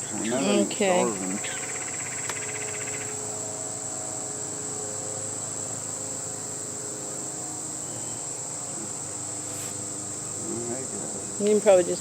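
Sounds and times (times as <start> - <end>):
steady high-pitched tone: 0.0 - 9.8
honeybees buzzing: 0.0 - 12.0.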